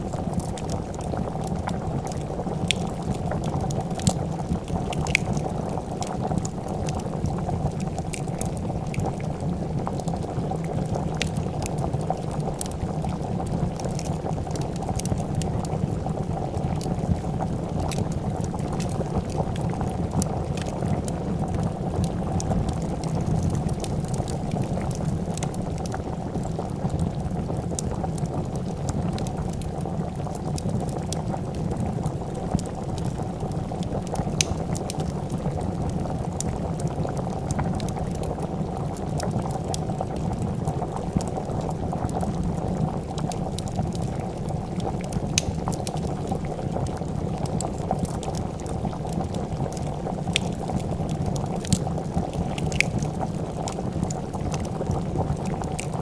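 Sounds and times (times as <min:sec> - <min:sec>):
fire popping and crackling: 0:00.0 - 0:56.0
soup bubbling in a pot: 0:00.0 - 0:56.0.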